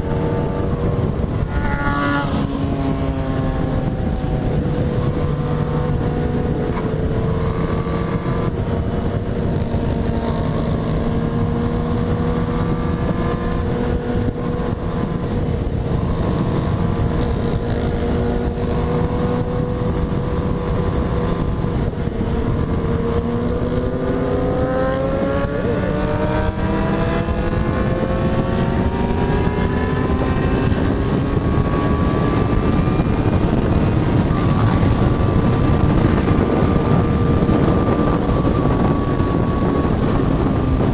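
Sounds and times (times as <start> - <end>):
motorcycle engine accelerating: 0.0 - 40.9
wind rushing: 0.0 - 40.9.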